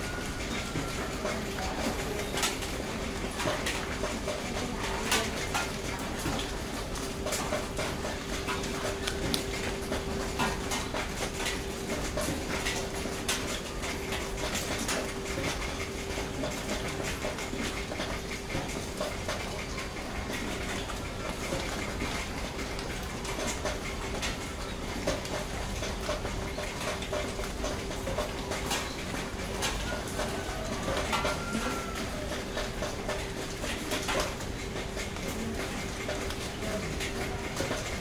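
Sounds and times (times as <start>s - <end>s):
puppies suckling wet clicks: 0.2s - 38.0s.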